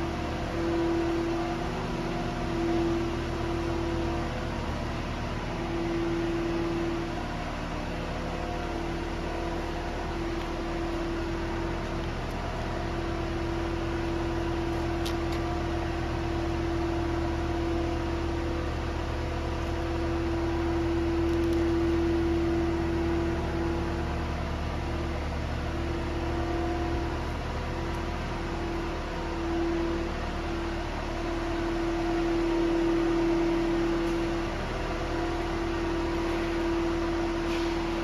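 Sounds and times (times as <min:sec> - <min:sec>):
machine low hum with whine: 0:00.0 - 0:38.0.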